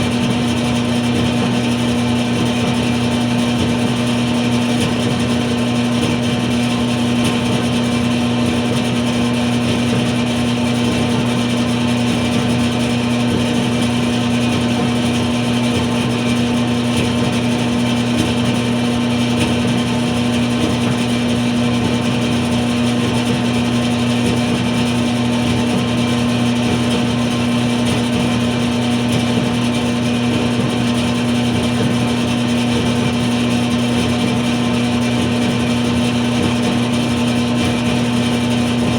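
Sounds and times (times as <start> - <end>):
dryer running: 0.0 - 38.9.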